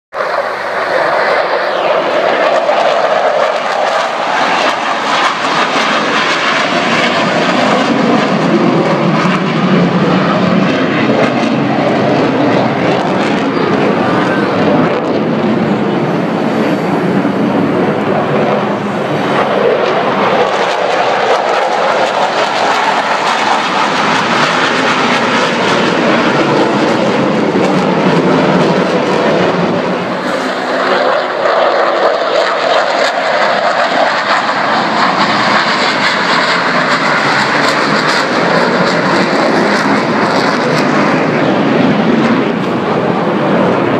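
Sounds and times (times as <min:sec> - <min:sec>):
jet engine roar: 0:00.1 - 0:43.9.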